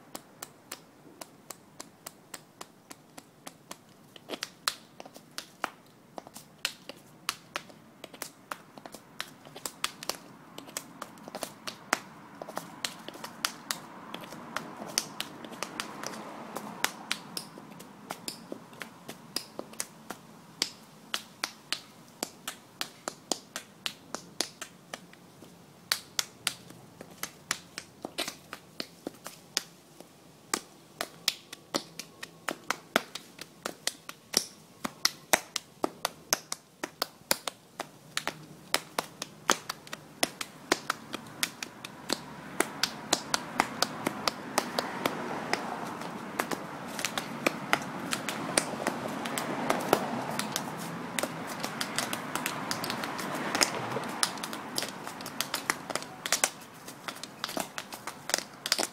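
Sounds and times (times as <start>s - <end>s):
faint background hiss: 0.0s - 58.9s.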